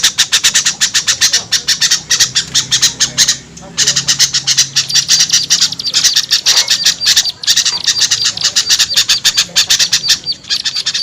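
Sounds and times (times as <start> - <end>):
songbirds chattering and scolding: 0.0 - 11.0.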